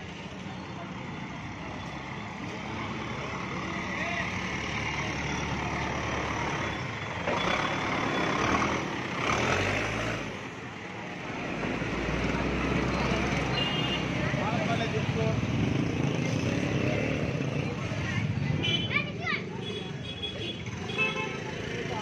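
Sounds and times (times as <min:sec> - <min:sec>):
motorcycle engines: 0:00.0 - 0:22.0.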